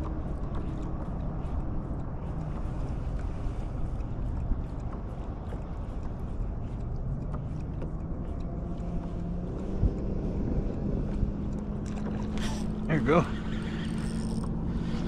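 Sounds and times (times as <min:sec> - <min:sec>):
water lapping around kayak: 0:00.0 - 0:15.0
wind rumbling on microphone: 0:00.0 - 0:15.0.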